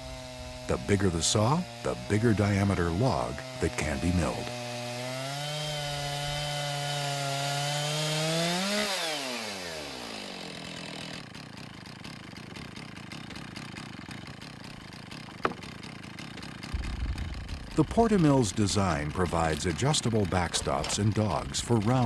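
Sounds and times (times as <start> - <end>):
chainsaw engine running: 0.0 - 22.0.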